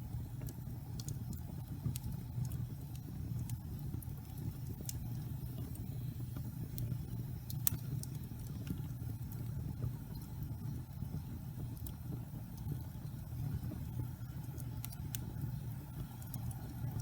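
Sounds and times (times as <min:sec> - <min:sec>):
fire crackles and pops: 0:00.0 - 0:17.0
logs burning in fireplace: 0:00.0 - 0:17.0.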